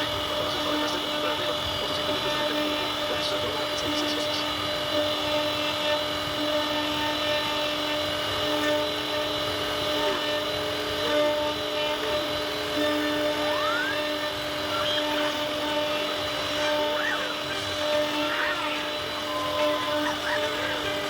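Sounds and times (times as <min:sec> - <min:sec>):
cutter carving wood: 0:00.0 - 0:21.0
router spindle whining: 0:00.0 - 0:21.0.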